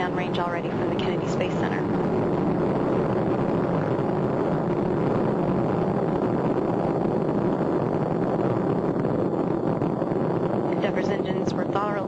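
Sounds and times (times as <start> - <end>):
rocket engines roaring: 0.0 - 12.0.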